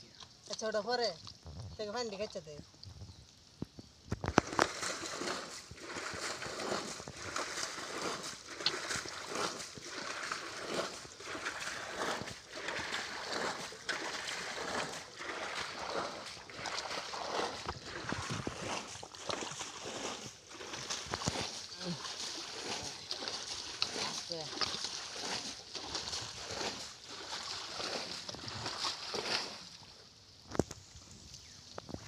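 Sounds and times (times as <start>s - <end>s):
splashing in shallow muddy water: 0.0s - 32.0s.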